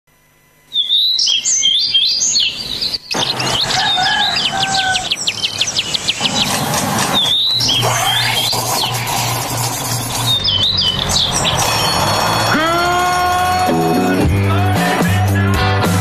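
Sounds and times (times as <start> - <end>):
birds chirping and singing: 0.7 - 14.7.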